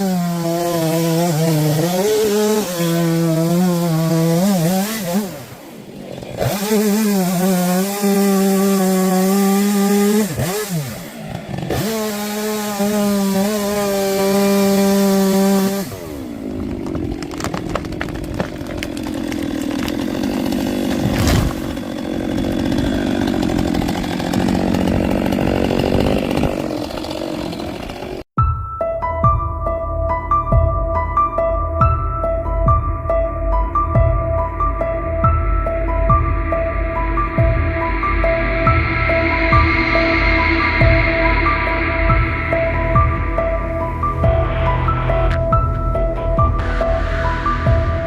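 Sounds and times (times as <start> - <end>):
chainsaw running: 0.0 - 28.3, 35.7 - 48.0.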